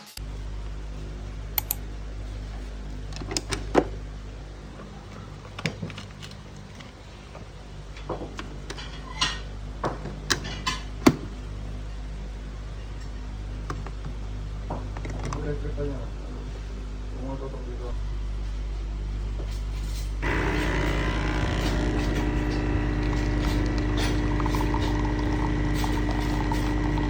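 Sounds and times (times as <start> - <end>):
low electrical hum: 0.2 - 14.8, 15.5 - 27.0.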